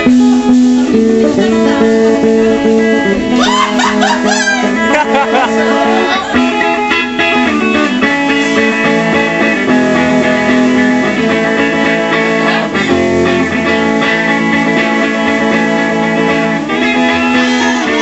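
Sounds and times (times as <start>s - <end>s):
electric guitar strumming chords: 0.0s - 18.0s.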